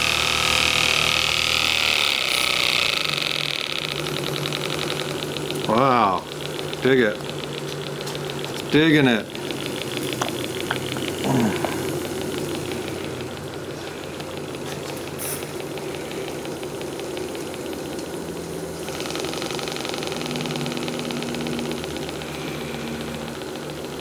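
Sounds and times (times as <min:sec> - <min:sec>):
model steam engine chuffing: 0:00.0 - 0:24.0.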